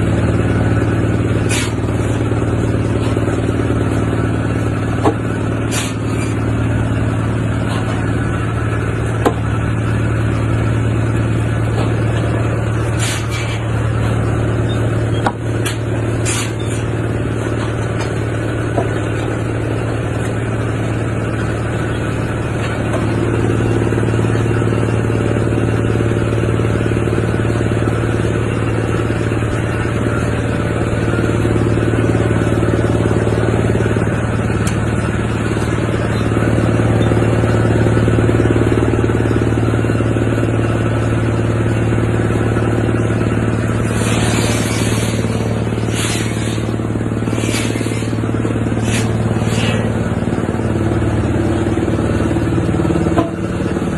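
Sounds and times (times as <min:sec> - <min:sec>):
wood chipper droning: 0:00.0 - 0:53.9.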